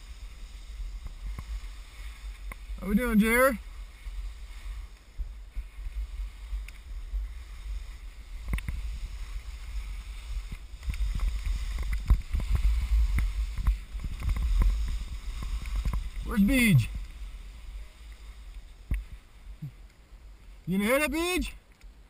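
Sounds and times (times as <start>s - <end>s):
wind rumble on microphone: 0.0s - 20.8s
skis scraping through slushy snow: 0.0s - 21.4s.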